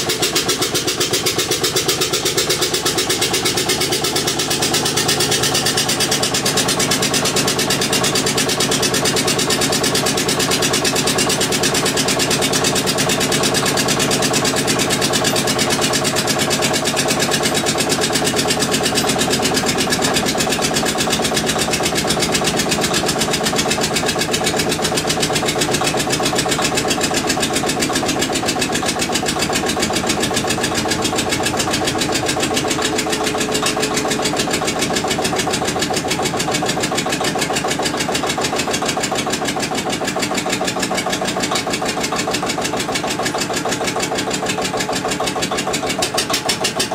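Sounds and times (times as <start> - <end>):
diesel generator engine running: 0.0 - 46.9.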